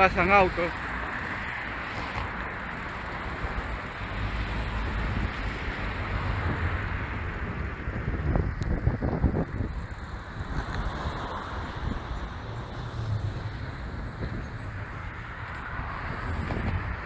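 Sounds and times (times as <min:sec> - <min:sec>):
cars passing: 0:00.0 - 0:17.0
wind buffeting on microphone: 0:01.1 - 0:17.0.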